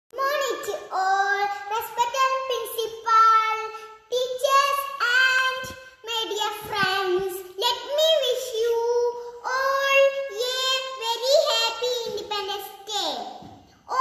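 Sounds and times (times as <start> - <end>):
girl singing: 0.2 - 14.0.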